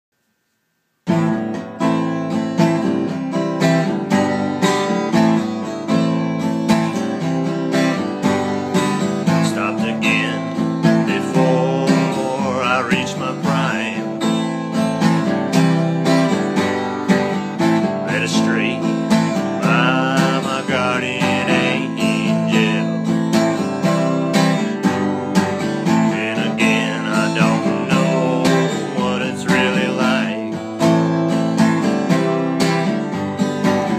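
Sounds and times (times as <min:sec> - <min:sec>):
acoustic guitar strumming: 0:01.0 - 0:33.9.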